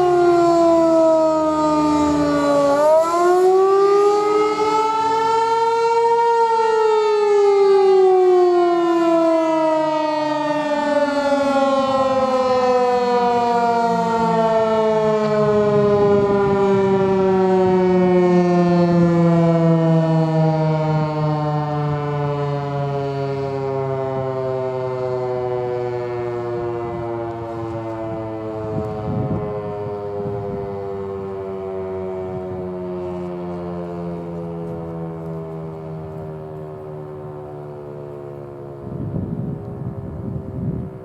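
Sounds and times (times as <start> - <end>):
outdoor warning siren wailing: 0.0 - 41.0.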